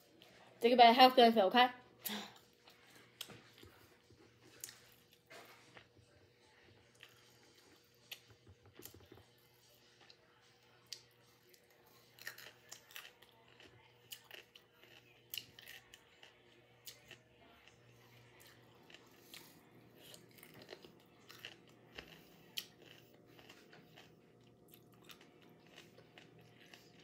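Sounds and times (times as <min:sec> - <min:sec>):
person chewing food: 0:02.4 - 0:27.0.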